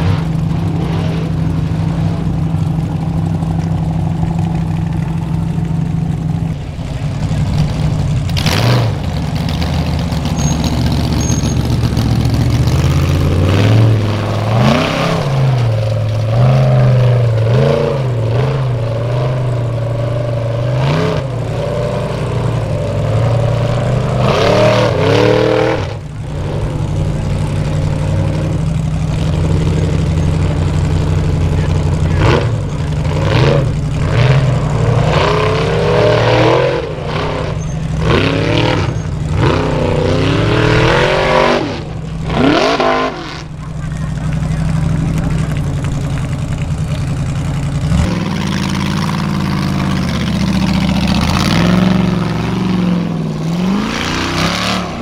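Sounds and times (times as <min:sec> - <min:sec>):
buggy engines revving: 0:00.0 - 0:55.0
low engine drone: 0:00.0 - 0:55.0.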